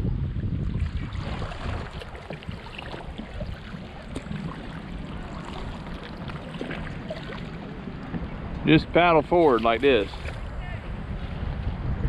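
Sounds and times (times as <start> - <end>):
water lapping and splashing: 0.0 - 11.3.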